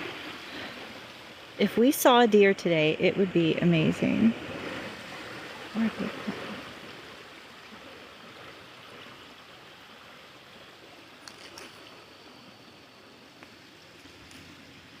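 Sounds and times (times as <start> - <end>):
stream running water: 0.0 - 15.0.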